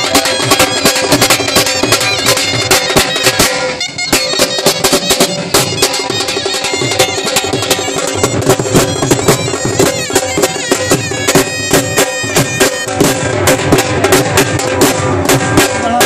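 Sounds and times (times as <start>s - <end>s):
piercing wind instrument melody: 0.0s - 14.1s
dhol drums beating: 0.0s - 16.0s.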